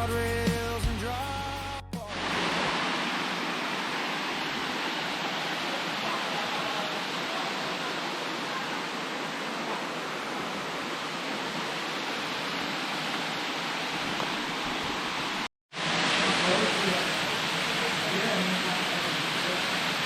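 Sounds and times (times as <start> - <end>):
waterfall roaring: 2.1 - 20.0.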